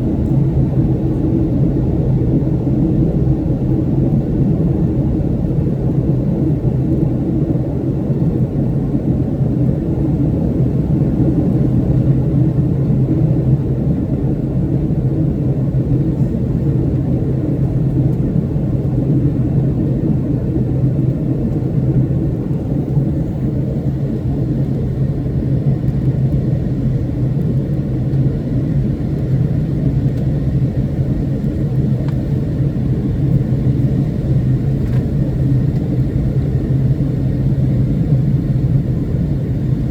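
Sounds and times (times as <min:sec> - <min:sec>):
airplane engines rumbling in flight: 0:00.0 - 0:39.9.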